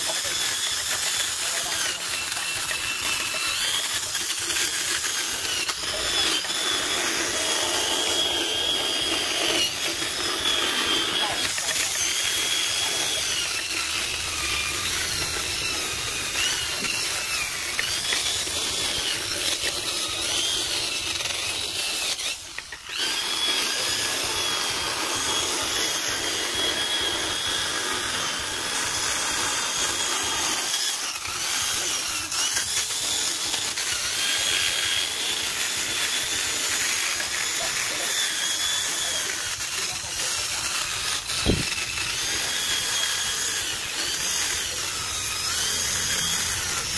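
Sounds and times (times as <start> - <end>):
drill sander whining on wood: 0.0 - 46.9.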